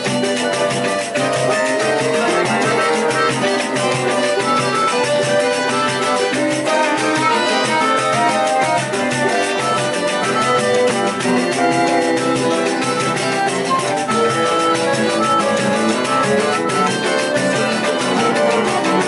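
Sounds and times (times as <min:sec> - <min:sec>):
accordion: 0:00.0 - 0:19.0
flute melody: 0:00.0 - 0:19.0
strummed guitars: 0:00.0 - 0:19.0.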